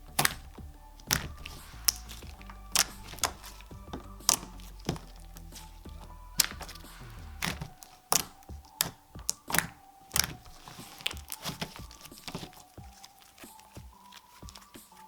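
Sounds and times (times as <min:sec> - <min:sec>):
slime squeezed with clicking pops: 0:00.0 - 0:14.8.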